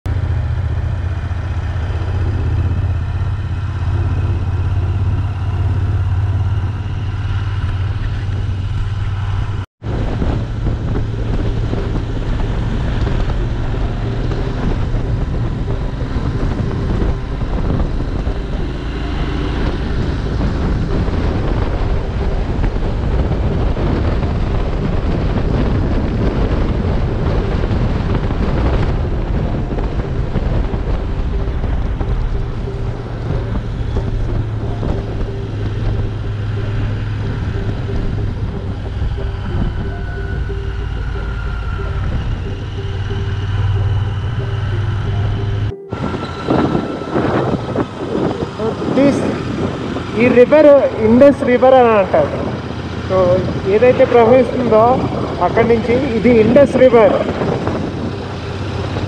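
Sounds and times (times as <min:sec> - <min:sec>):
motorcycle engine running: 0:00.1 - 0:59.0
wind noise on microphone: 0:00.1 - 0:59.0.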